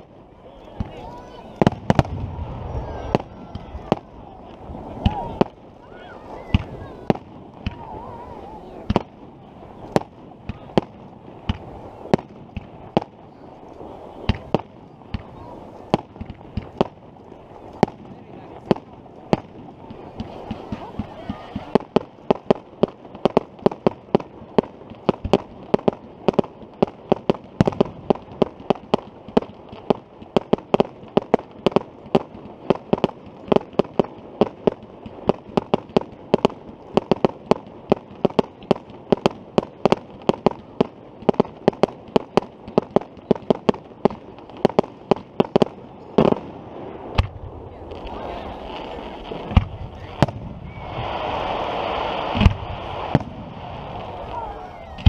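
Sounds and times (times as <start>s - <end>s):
fireworks popping: 0.0s - 55.0s
loud firework bangs: 0.0s - 55.0s.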